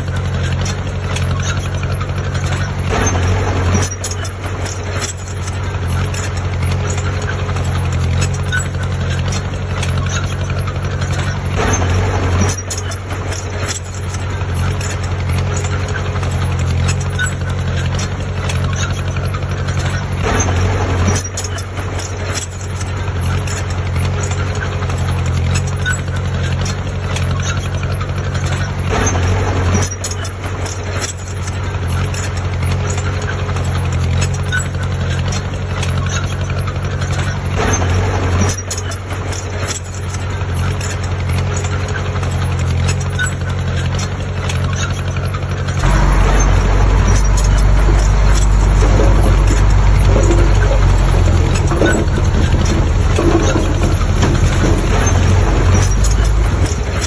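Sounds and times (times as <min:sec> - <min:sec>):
heavy diesel engine running: 0:00.0 - 0:57.0
metallic clicking and clanking: 0:00.0 - 0:57.0.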